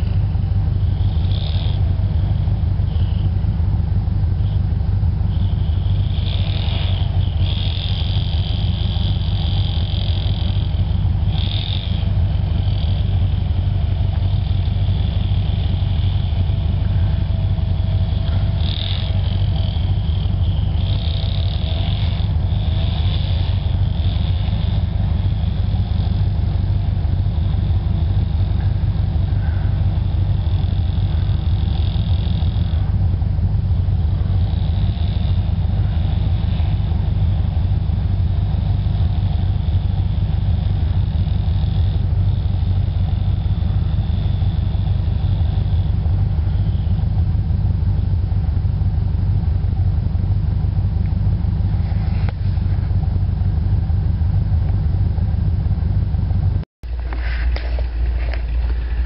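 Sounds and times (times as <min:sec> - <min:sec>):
vehicle driving on snowy road: 0:00.0 - 0:59.0.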